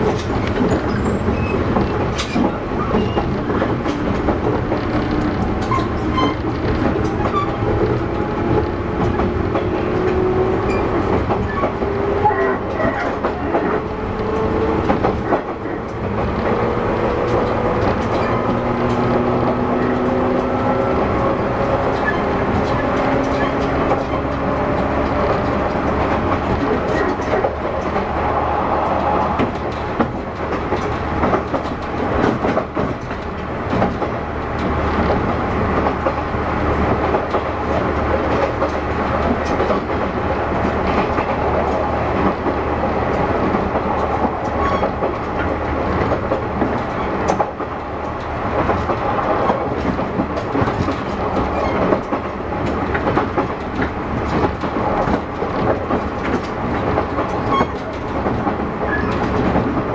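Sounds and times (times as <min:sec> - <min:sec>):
train bogies rumbling: 0:00.0 - 0:59.9
wheels clattering over rail joints: 0:00.0 - 0:59.9.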